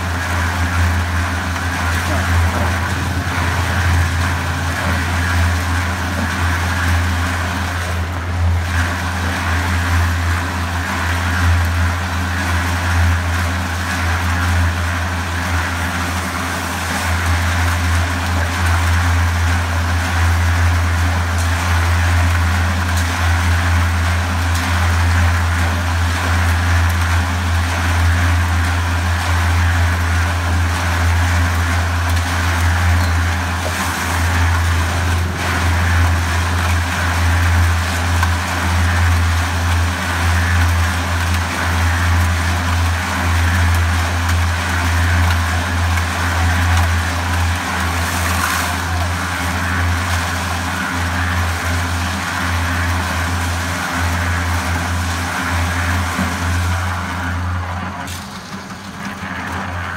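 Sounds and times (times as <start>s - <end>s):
concrete mixer running: 0.0s - 59.9s.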